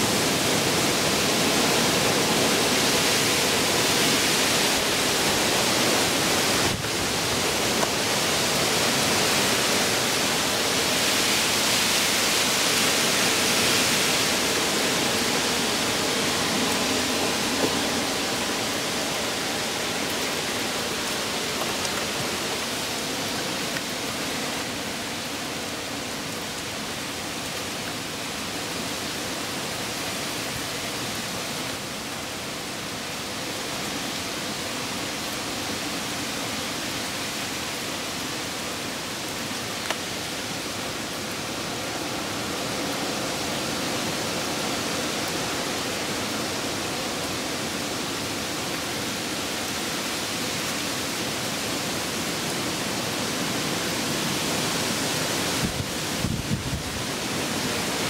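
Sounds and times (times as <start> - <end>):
heavy rain: 0.0 - 58.0
wind gusts through trees: 0.0 - 58.0.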